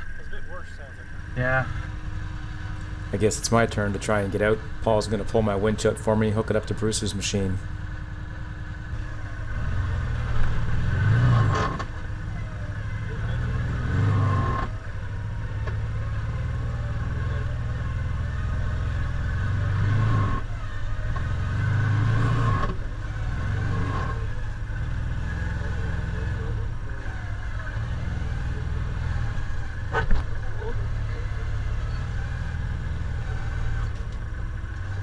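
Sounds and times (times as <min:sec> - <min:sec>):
vehicle engine idling and revving: 0:00.0 - 0:35.0.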